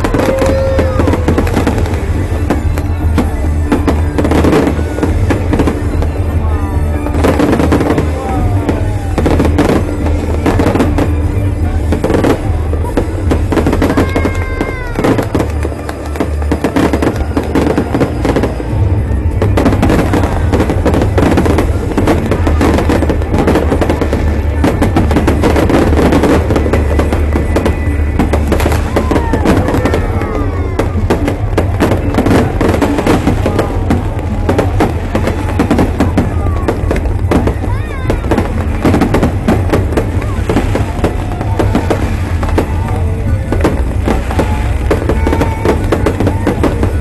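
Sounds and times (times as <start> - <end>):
fireworks bangs and crackles: 0.0 - 47.0
music: 0.0 - 47.0.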